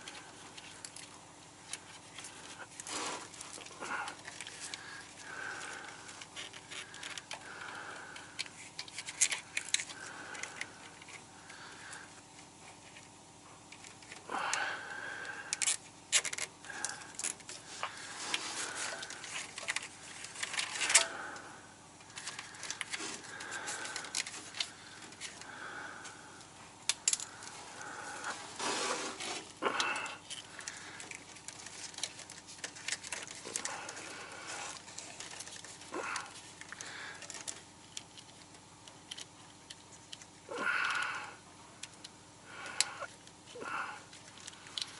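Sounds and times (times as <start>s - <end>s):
clicks rattles and scrapes of handwork: 0.0s - 14.6s, 15.4s - 21.2s, 22.0s - 25.6s, 26.4s - 41.2s, 41.8s - 44.9s.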